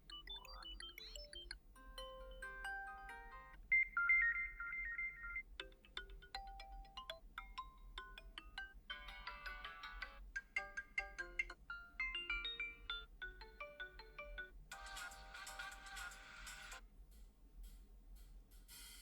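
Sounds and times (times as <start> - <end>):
electronic ringtone melodies: 0.0 - 16.8.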